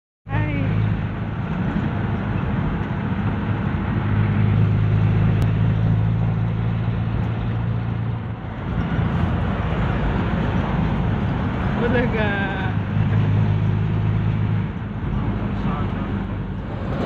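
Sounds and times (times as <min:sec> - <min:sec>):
van engine and road noise: 0:00.3 - 0:17.0.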